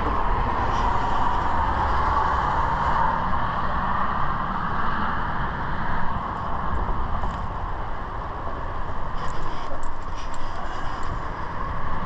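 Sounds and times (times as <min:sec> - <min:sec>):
highway traffic rushing: 0:00.0 - 0:12.0.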